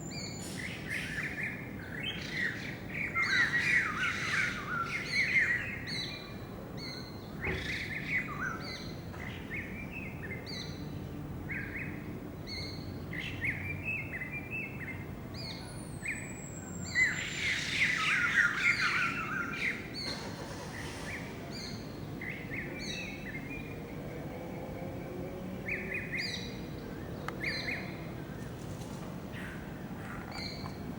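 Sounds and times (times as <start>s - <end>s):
small birds chirping: 0.0s - 24.7s, 25.5s - 28.7s, 29.3s - 30.9s.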